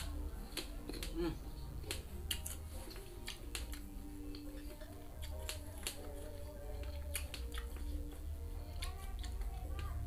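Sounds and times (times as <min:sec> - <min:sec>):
crunching and chewing fruit: 0:00.0 - 0:10.0.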